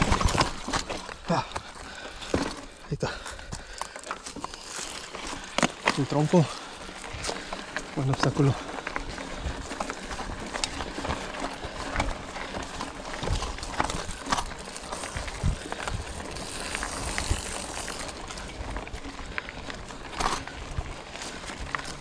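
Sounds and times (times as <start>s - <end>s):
bike knocking and rattling: 0.0s - 22.0s
tyres rolling over dirt and leaves: 0.0s - 22.0s.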